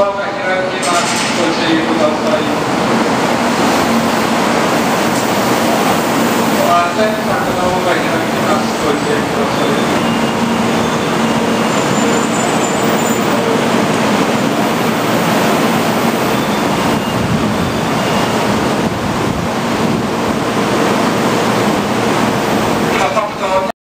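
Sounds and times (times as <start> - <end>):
steady train noise: 0.0 - 23.7.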